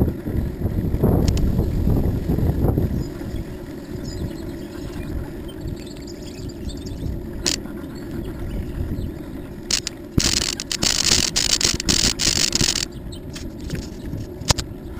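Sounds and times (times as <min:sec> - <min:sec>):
bicycle rolling on pavement: 0:00.0 - 0:14.9.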